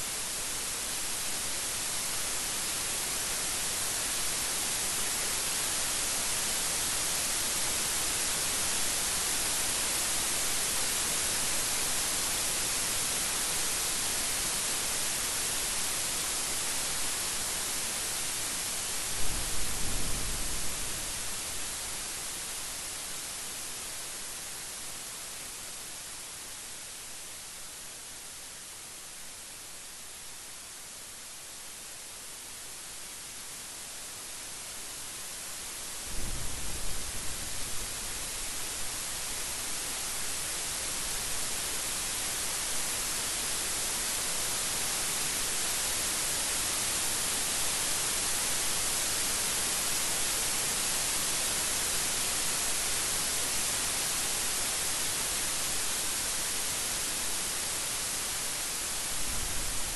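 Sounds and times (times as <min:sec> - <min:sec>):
heavy rain: 0:00.1 - 0:27.6, 0:32.9 - 0:59.9.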